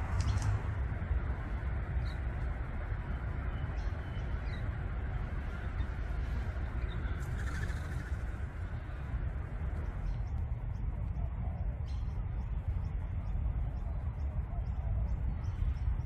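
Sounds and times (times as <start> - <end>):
low rumble: 0.0 - 16.0
birds chirping: 1.8 - 16.0.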